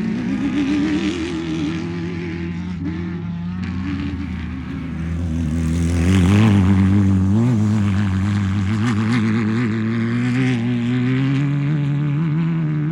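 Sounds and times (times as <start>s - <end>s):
race car engine running: 0.0s - 12.9s.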